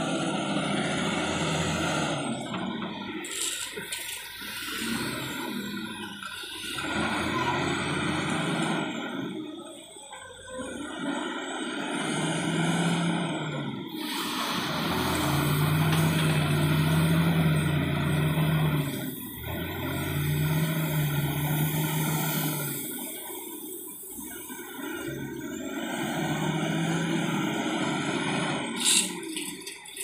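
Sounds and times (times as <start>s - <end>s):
diesel engine revving hard: 0.0s - 3.2s, 4.3s - 9.5s, 10.6s - 29.1s.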